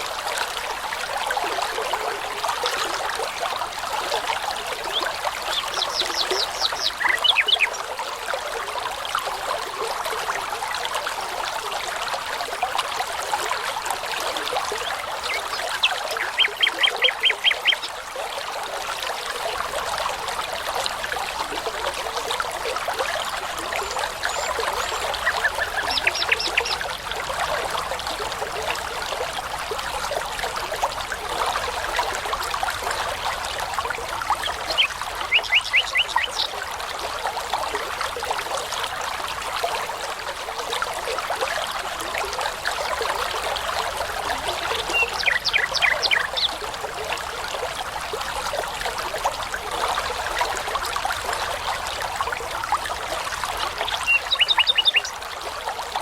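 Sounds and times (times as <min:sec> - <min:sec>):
babbling brook: 0:00.0 - 0:56.0.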